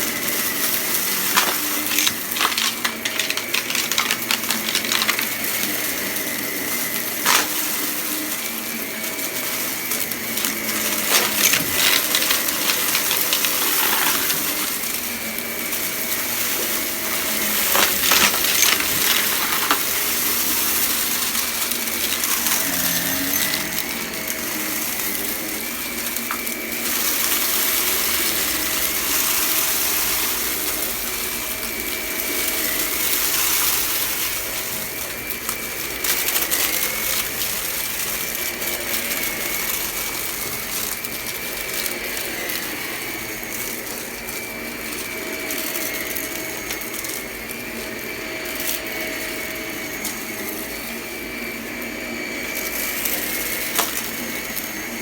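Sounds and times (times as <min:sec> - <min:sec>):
debris crackling in vacuum: 0:00.0 - 0:55.0
vacuum cleaner running: 0:00.0 - 0:55.0.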